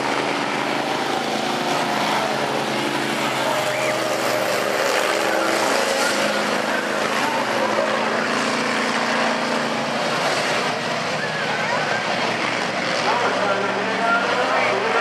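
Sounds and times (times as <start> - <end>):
bus engines racing: 0.0 - 15.0.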